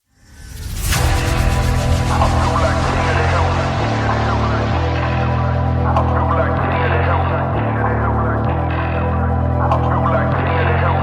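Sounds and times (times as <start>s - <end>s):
electronic hip-hop music: 0.5s - 11.0s.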